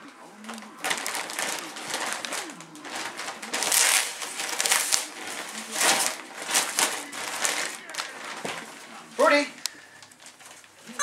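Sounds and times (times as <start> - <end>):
puppy tearing wrapping paper: 0.0 - 11.0.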